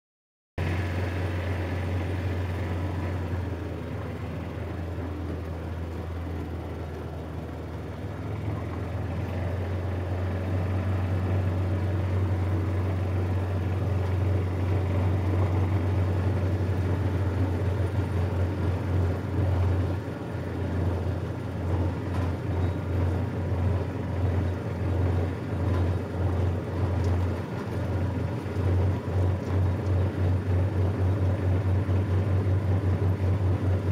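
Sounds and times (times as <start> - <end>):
lawn tractor engine running: 0.6 - 33.9.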